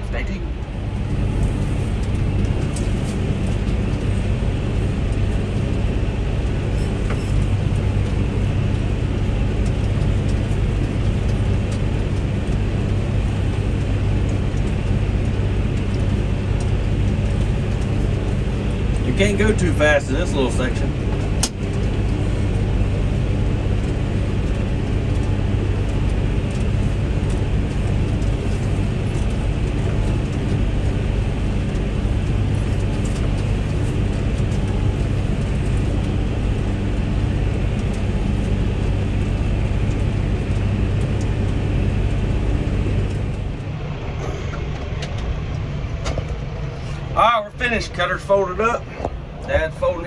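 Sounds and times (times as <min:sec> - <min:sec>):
mower machinery humming: 0:00.0 - 0:50.0
tractor engine running: 0:00.0 - 0:50.0.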